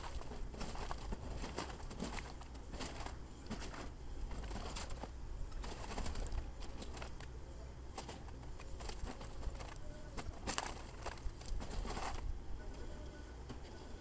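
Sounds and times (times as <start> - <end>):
clicks and knocks of demolition: 0.0 - 7.3, 8.0 - 12.3
excavator rumble: 0.0 - 13.0.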